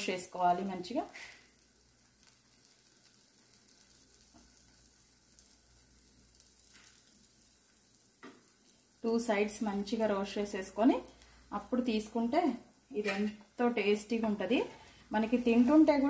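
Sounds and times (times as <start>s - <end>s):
bread sizzling on griddle: 0.0s - 16.0s.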